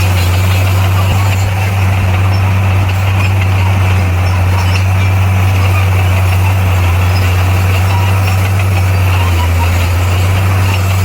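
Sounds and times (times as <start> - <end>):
bulldozer diesel engine drone: 0.0 - 11.0.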